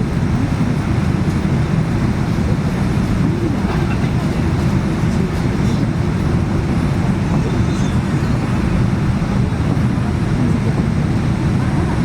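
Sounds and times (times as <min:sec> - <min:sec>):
low rumble in airliner cabin: 0:00.0 - 0:12.0.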